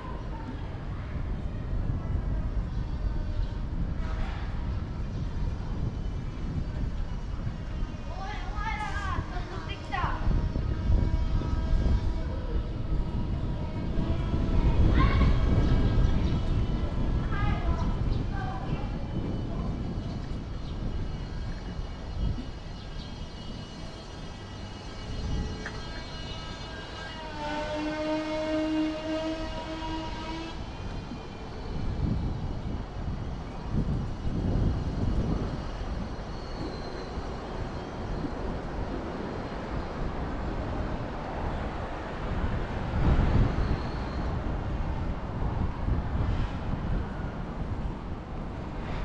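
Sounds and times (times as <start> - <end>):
city traffic rumble: 0.0 - 49.0.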